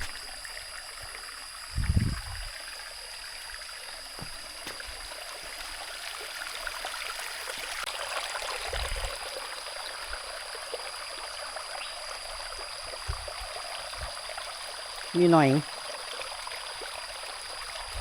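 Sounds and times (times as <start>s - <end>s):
stream trickling over rocks: 0.0s - 18.0s.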